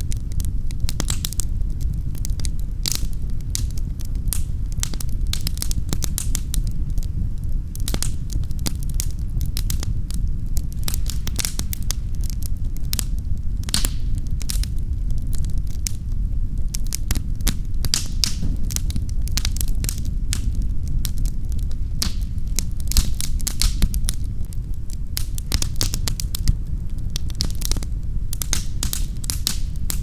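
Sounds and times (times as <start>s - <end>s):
low rumble of fire: 0.0s - 30.0s
wood fire crackling: 0.0s - 30.0s.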